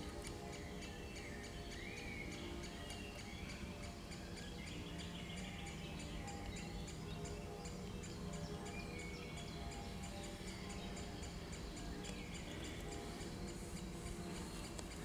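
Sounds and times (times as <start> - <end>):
bird chirps: 0.0 - 15.0
soft background music: 0.0 - 15.0.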